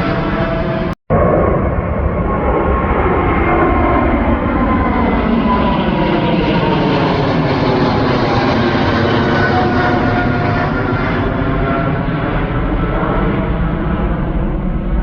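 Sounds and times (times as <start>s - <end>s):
airliner engines passing: 0.0s - 15.0s.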